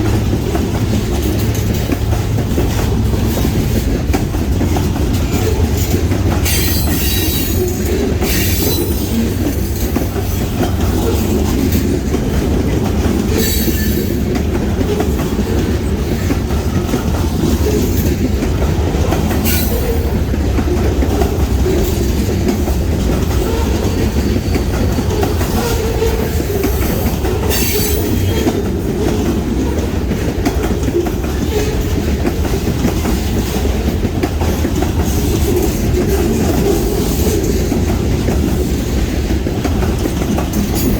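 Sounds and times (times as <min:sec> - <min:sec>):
freight train wheels clickety-clack: 0:00.0 - 0:40.9.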